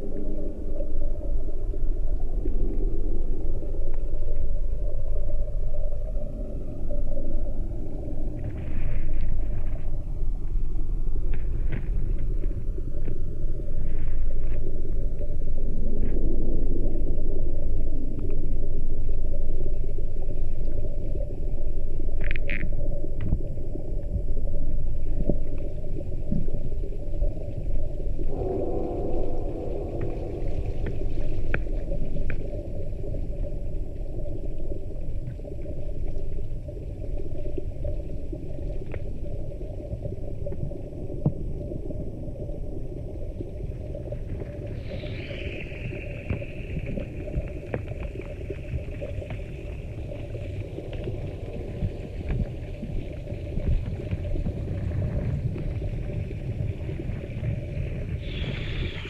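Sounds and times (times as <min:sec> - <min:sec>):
deep rumble of water: 0:00.0 - 0:59.0.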